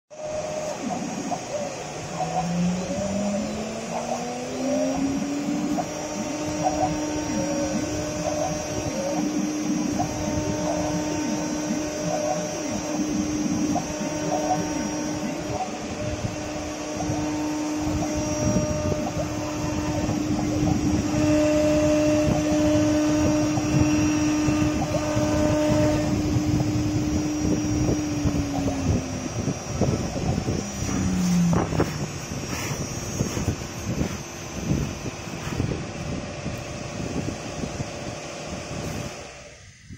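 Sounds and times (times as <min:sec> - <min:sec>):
gantry motor chirps: 0:00.1 - 0:36.0
rough cutting noise: 0:00.1 - 0:37.4
router spindle whining: 0:00.1 - 0:39.9.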